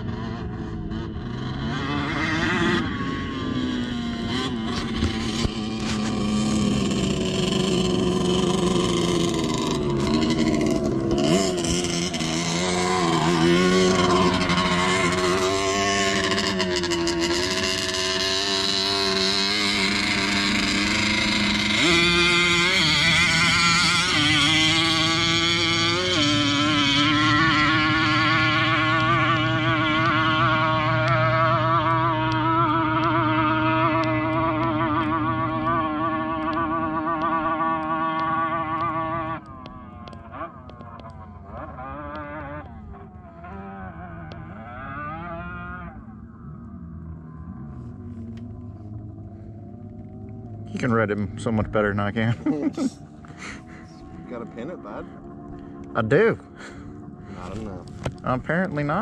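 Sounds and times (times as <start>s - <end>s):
engines revving: 0.0s - 59.0s.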